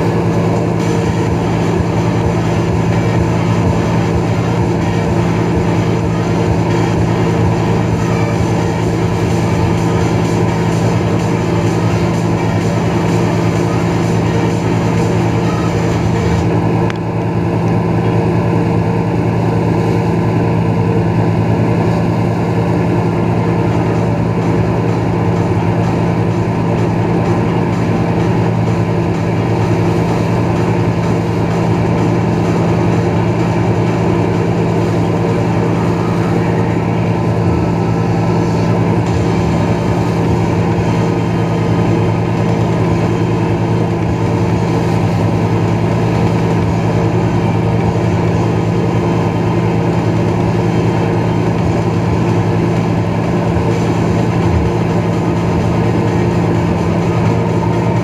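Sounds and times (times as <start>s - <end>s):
boat engine humming: 0.0s - 58.0s
rushing wash of wake: 0.0s - 58.0s.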